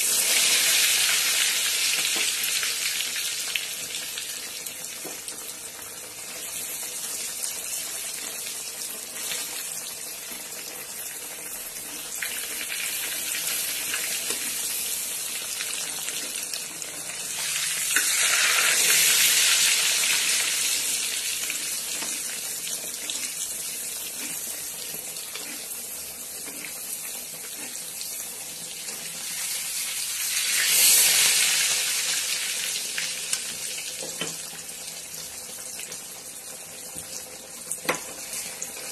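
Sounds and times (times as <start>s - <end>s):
cheese frying in hot oil: 0.0s - 38.9s.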